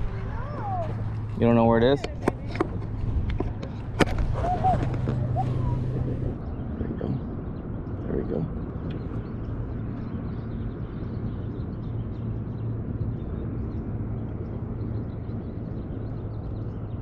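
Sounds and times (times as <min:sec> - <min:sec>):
distant engine humming: 0:00.0 - 0:17.0
outdoor ambience: 0:00.0 - 0:17.0.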